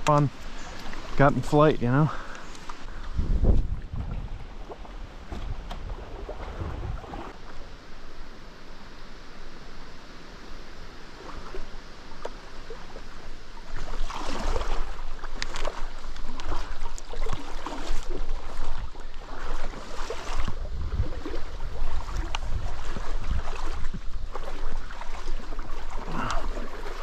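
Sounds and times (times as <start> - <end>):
wading splashes in river water: 0.0 - 8.0, 10.8 - 27.0.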